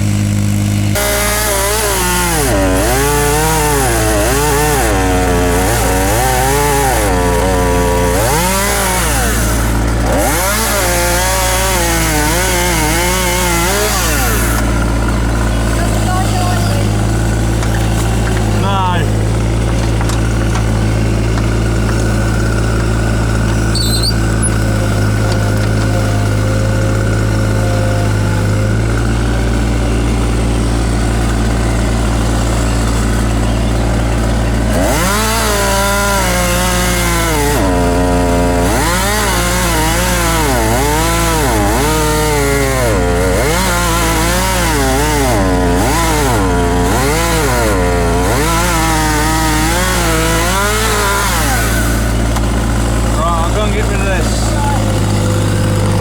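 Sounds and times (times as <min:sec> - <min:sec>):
hydraulic whine: 0:00.0 - 0:56.0
mini excavator running: 0:00.0 - 0:56.0.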